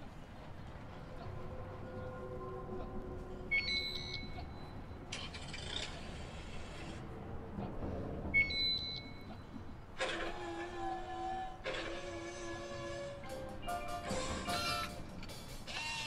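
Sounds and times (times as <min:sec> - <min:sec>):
low stadium ambience: 0:00.0 - 0:16.0.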